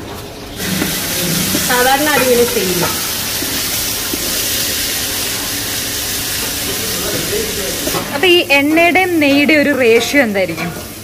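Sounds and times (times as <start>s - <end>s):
rice sizzling in oil: 0.4s - 11.0s.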